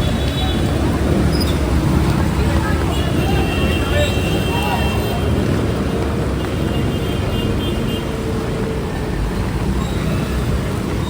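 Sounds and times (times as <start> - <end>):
traffic on a wet road: 0.0 - 11.0.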